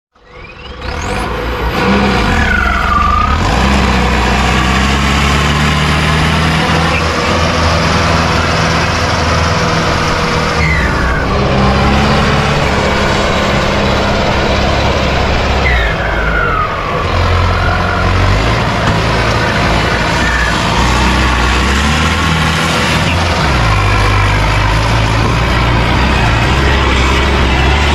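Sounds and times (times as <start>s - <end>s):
tractor diesel engine running: 0.1s - 27.9s.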